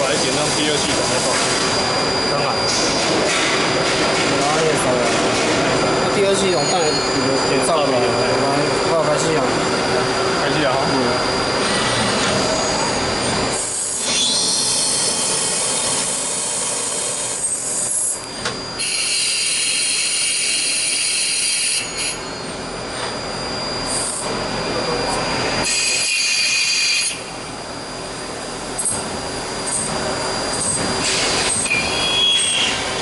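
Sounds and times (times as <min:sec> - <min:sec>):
high-pitched cutting whine: 0:00.0 - 0:33.0
lathe machining metal: 0:00.0 - 0:33.0.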